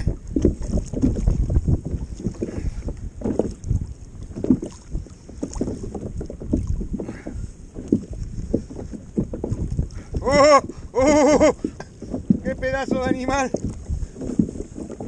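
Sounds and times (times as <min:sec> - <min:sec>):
water slapping against kayak hull: 0:00.0 - 0:15.0
wind rumbling on microphone: 0:00.0 - 0:15.0.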